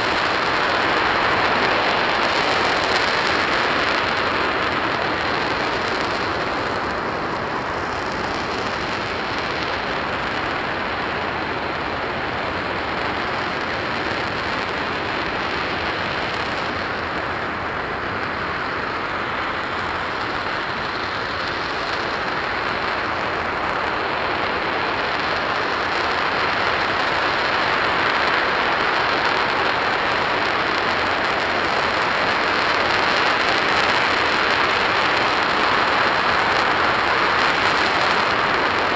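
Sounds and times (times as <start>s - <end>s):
rocket engine roaring: 0.0s - 38.9s.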